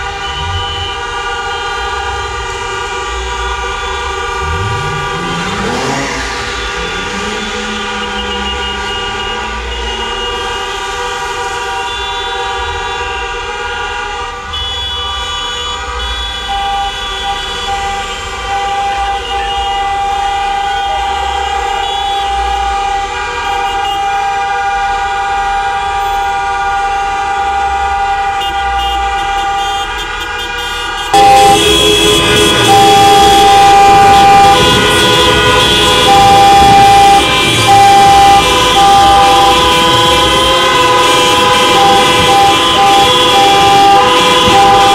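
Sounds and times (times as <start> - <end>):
car horns honking: 0.0 - 44.9
low traffic rumble: 0.0 - 44.9.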